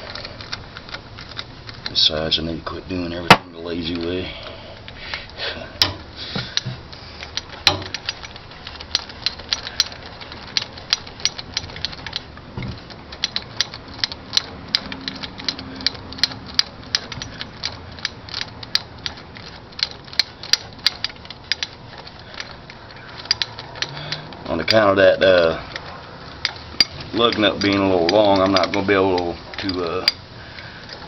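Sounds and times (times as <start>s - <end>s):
hand ratchet clicking: 0.0s - 31.0s.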